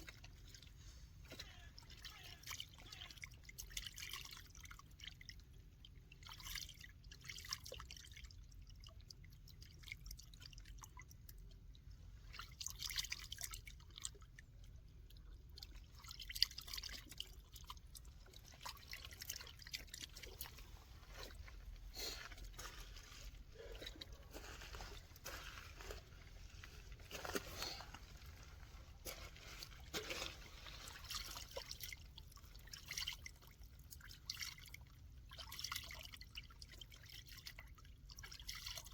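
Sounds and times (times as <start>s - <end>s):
water dripping and trickling: 0.0s - 38.9s
low steady rumble: 3.2s - 35.4s.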